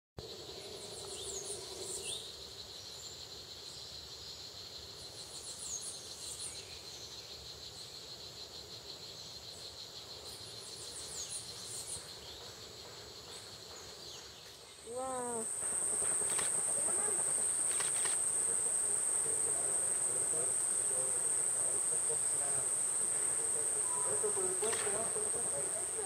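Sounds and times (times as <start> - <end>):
high insect trill: 0.2 - 26.0.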